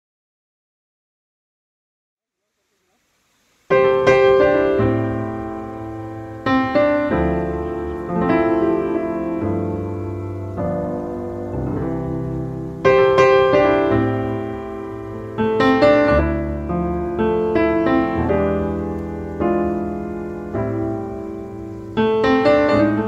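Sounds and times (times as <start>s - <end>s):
slow piano chords: 3.5s - 23.0s.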